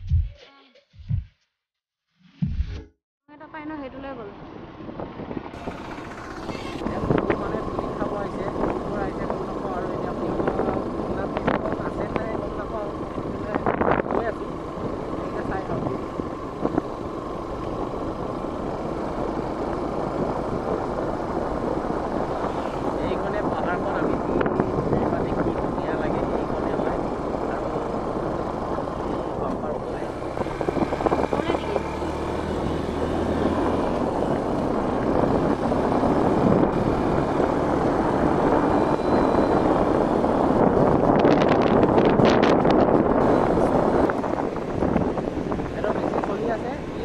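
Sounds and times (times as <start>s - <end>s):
motorcycle engine and road noise: 3.3s - 47.0s
wind rushing over microphone: 3.8s - 47.0s.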